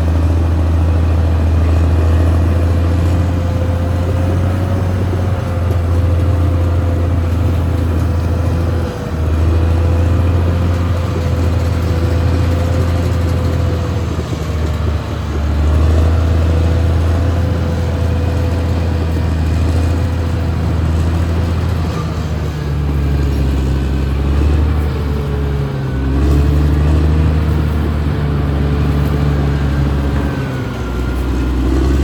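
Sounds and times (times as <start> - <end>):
bulldozer diesel engine droning: 0.0 - 32.0.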